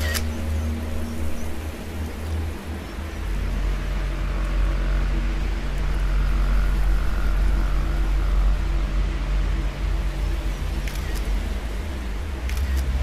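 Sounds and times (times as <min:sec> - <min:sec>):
low droning film score music: 0:00.0 - 0:13.0.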